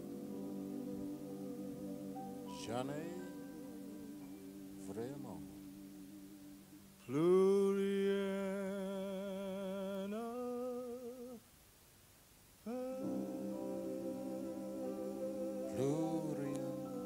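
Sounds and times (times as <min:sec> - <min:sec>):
male vocal quartet harmony: 0:00.0 - 0:11.4, 0:12.7 - 0:17.0.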